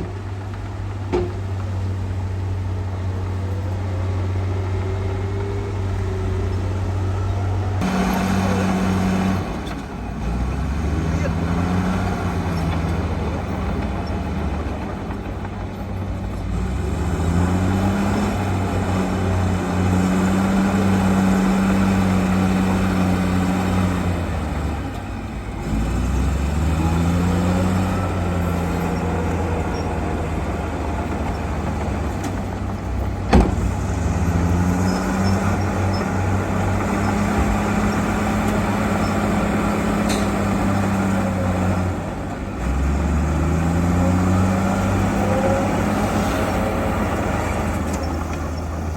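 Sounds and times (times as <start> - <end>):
heavy machine engine surging: 0.0 - 48.9.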